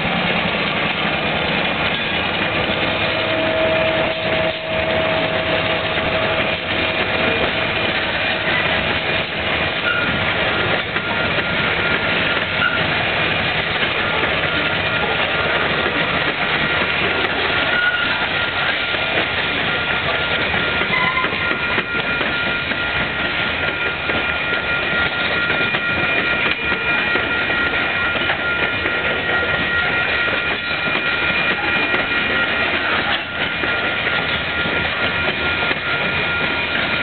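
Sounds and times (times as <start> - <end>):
train wheels rumbling on rail: 0.0 - 37.0
high wheel squeal: 1.9 - 37.0.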